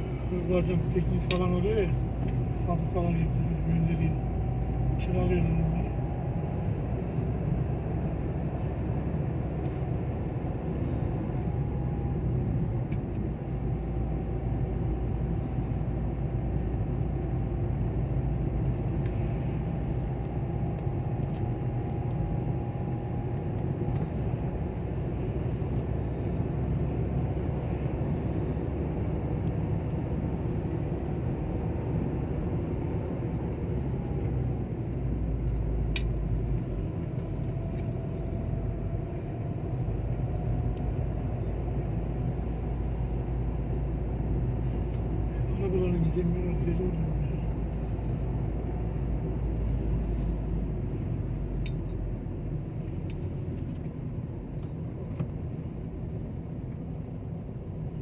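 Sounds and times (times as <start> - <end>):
engine and tyre rumble: 0.0 - 58.0
faint whine: 0.0 - 58.0.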